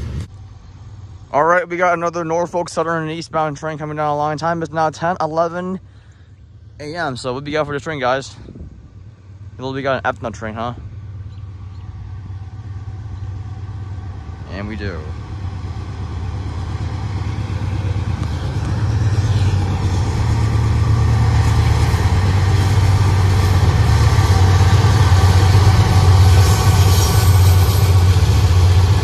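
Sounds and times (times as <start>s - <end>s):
diesel locomotive engine rumble: 0.0s - 29.0s.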